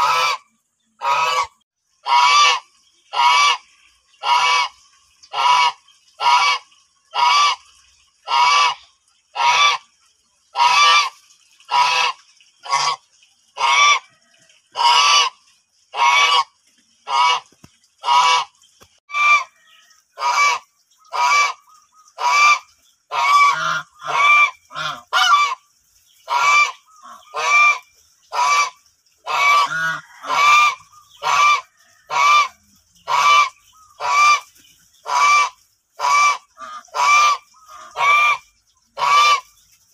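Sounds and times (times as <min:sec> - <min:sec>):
geese honking loudly: 0:00.0 - 0:07.6, 0:08.2 - 0:09.8, 0:10.5 - 0:13.0, 0:13.6 - 0:14.0, 0:14.7 - 0:18.5, 0:19.1 - 0:19.6, 0:20.2 - 0:25.6, 0:26.3 - 0:39.5.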